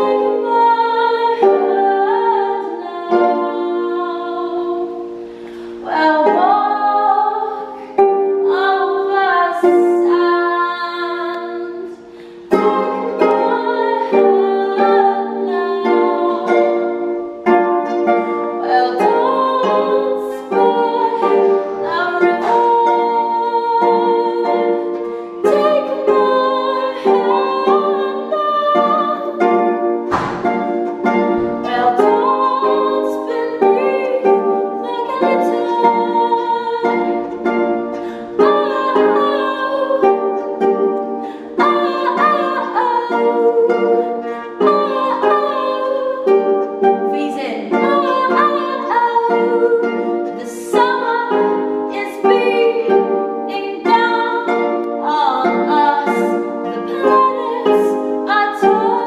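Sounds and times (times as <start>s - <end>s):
woman singing folk-pop song: 0.0s - 29.6s, 31.4s - 40.4s, 41.2s - 59.0s
harp plucking: 0.0s - 59.0s.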